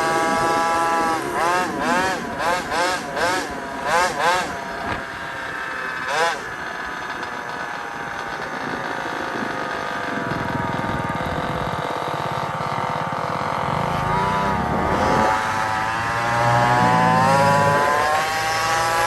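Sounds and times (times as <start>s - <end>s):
small gasoline engine revving: 0.0s - 19.0s.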